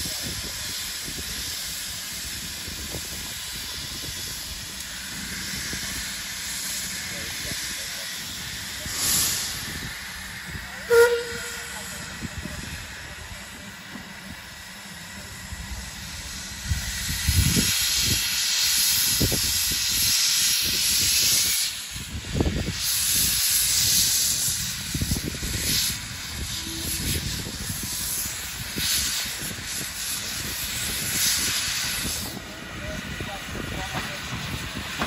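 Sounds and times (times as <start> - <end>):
steam exhaust chuffs: 0.0 - 35.0
steam locomotive hissing steam: 0.0 - 35.0.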